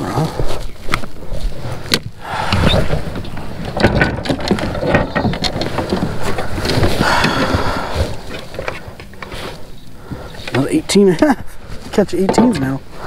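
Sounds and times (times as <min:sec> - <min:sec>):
gear handled in plastic kayak: 0:00.0 - 0:13.0.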